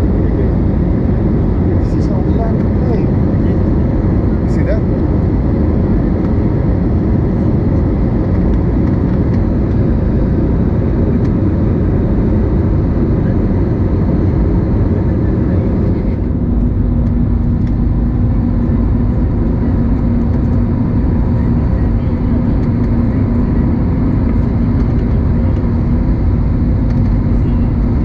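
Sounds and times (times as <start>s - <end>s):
airplane cabin engine rumble: 0.0s - 28.0s
steady hum: 0.0s - 28.0s.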